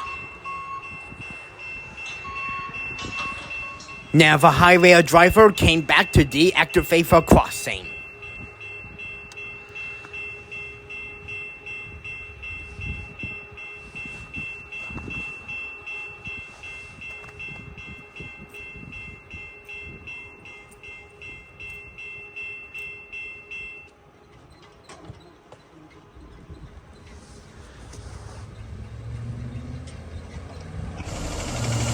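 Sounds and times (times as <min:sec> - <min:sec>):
railroad crossing bell ringing: 0:00.0 - 0:27.7, 0:28.9 - 0:31.9.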